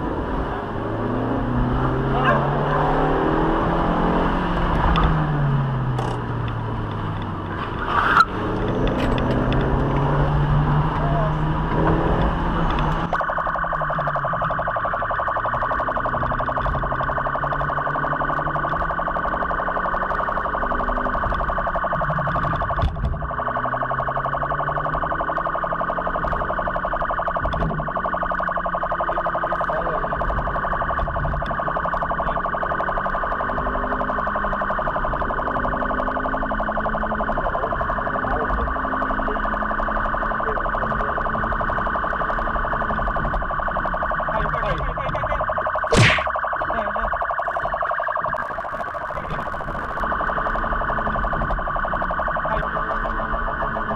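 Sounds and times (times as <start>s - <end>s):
police siren fast-cycling: 0.0s - 53.9s.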